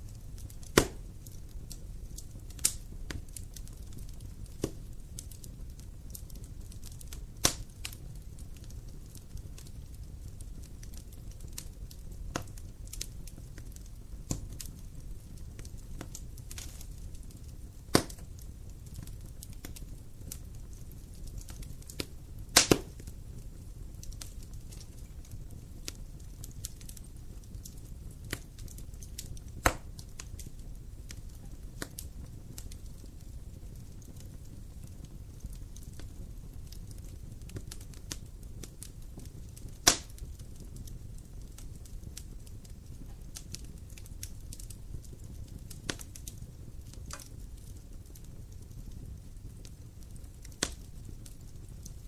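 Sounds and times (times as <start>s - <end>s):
fire popping and snapping: 0.0s - 52.0s
low rumble of flames: 0.0s - 52.0s
wood fire crackling: 0.0s - 52.0s.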